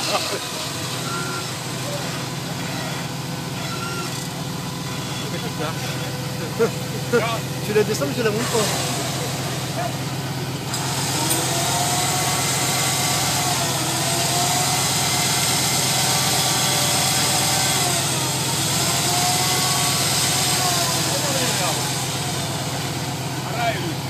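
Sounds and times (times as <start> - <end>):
buggy engine running at low revs: 0.0 - 24.0
engine whine rising and falling: 0.0 - 24.0.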